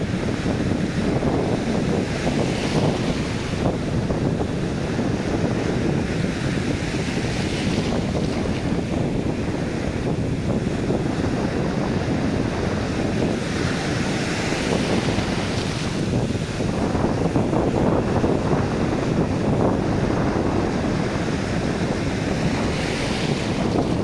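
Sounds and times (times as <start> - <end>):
surf washing over sandy beach: 0.0 - 24.0
wind buffeting microphone: 0.0 - 24.0.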